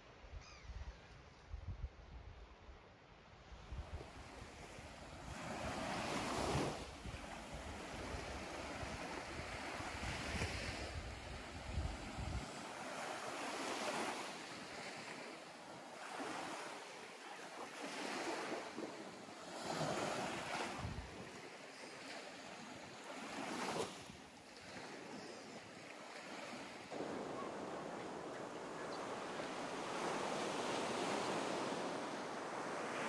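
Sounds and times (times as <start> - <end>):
small waves breaking on shore: 3.7 - 33.0.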